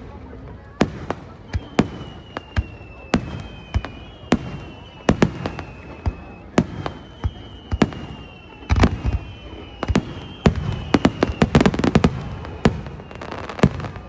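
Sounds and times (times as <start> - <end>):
fireworks bangs: 0.0 - 14.0
fireworks crackling: 0.0 - 14.0
faint high whistle-like tone: 1.2 - 14.0.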